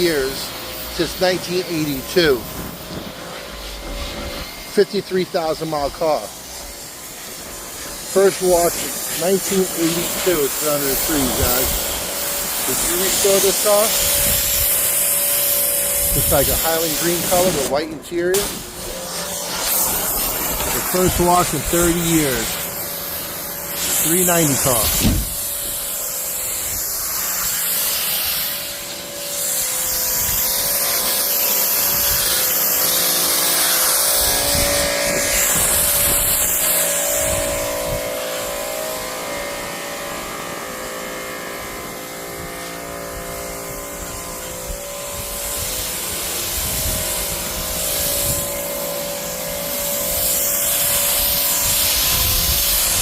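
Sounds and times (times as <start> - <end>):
water spraying onto car: 0.0 - 39.3, 45.0 - 53.0
pressure washer motor hum: 0.0 - 53.0.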